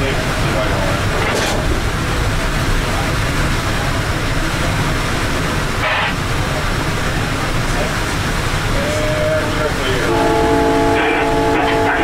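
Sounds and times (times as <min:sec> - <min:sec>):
train rumbling in motion: 0:00.0 - 0:12.0.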